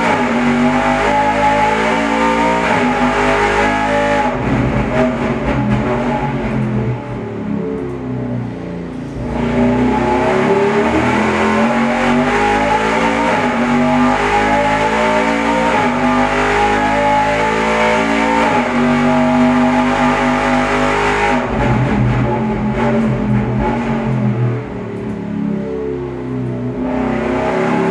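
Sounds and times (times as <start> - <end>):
racing engine revving on dyno: 0.0 - 27.9.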